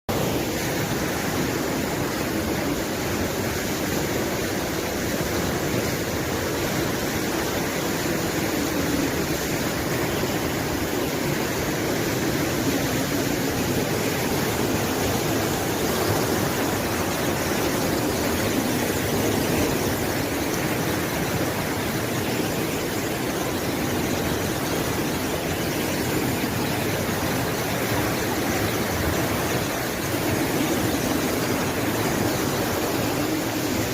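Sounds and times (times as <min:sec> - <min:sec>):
river rushing: 0:00.1 - 0:33.9.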